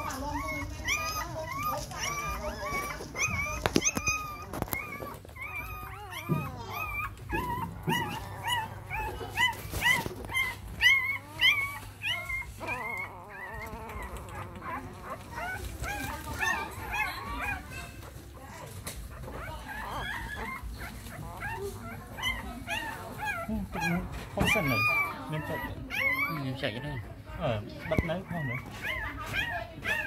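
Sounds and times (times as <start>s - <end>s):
puppies whimpering and crying: 0.0s - 30.0s.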